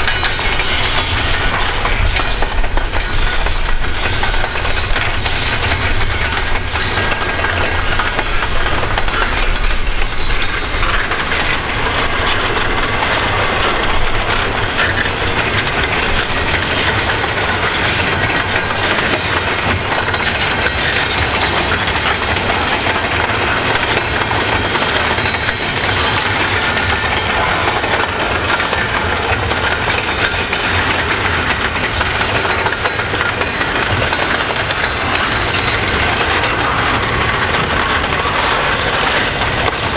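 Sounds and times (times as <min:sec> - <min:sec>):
freight train rolling past: 0:00.0 - 0:39.9
steel wheels clicking on rail: 0:00.0 - 0:39.9.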